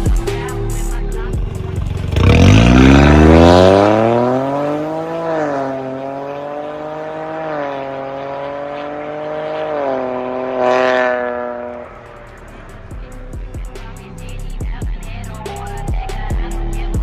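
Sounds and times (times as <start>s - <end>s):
turbo car engine exhaust note: 0.0s - 17.0s.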